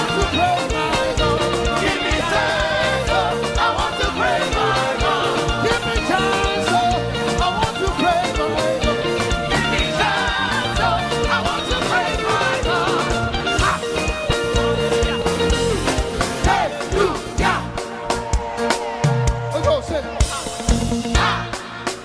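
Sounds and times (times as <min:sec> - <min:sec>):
gospel band playing: 0:00.0 - 0:22.0
voices singing: 0:00.0 - 0:22.0.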